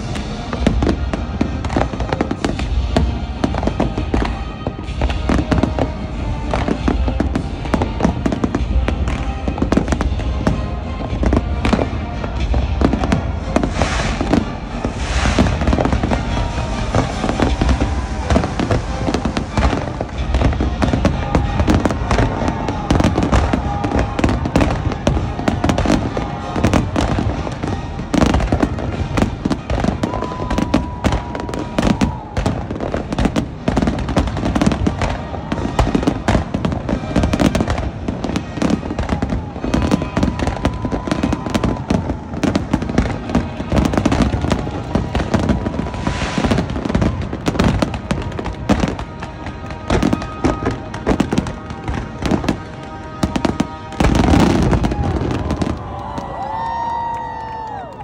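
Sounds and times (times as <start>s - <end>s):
fireworks bangs: 0.0s - 58.0s
music playing: 0.0s - 58.0s.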